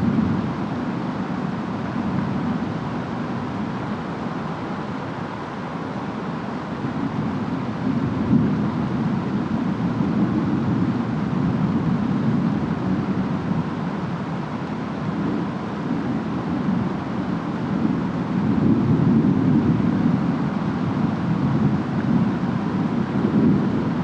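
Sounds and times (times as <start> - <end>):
low storm rumble: 0.0 - 24.0
rain: 0.0 - 24.0
wind noise: 0.0 - 24.0.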